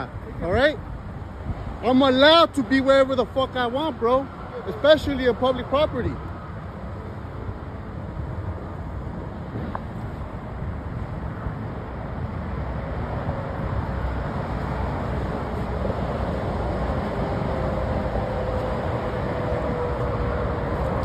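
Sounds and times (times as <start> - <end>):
vehicles driving by: 0.0 - 21.0.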